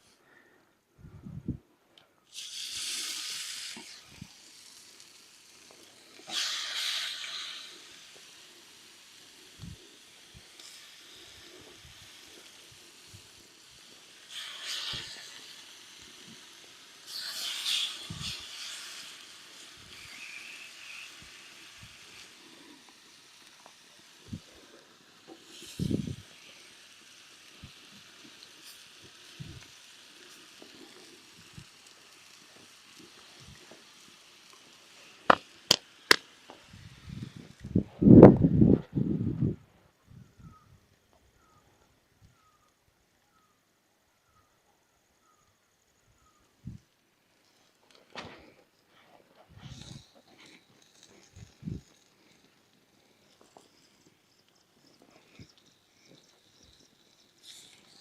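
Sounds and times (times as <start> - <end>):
chicken sizzling on hot stone: 2.3 - 37.8, 45.2 - 58.0.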